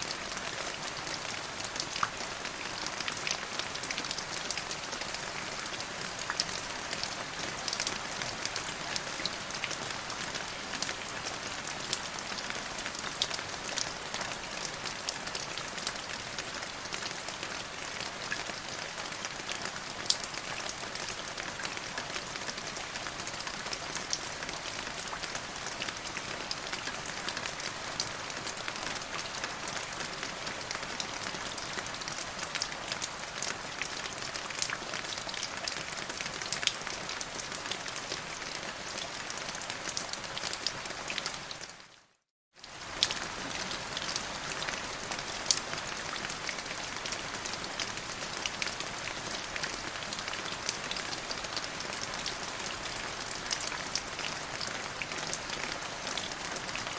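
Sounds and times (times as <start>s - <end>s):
rain falling on a surface: 0.0s - 56.9s.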